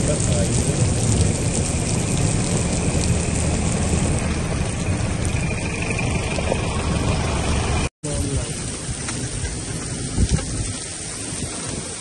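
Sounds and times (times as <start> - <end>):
low rumble: 0.0 - 11.6
torrential rain and hail: 0.0 - 12.0.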